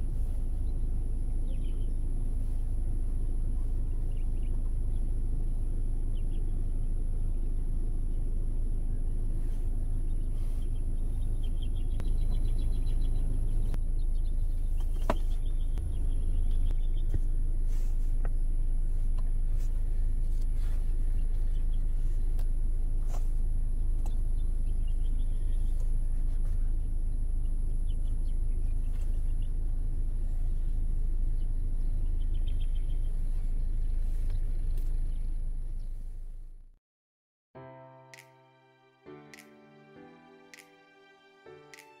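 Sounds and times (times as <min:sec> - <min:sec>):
low rumble: 0:00.0 - 0:36.7.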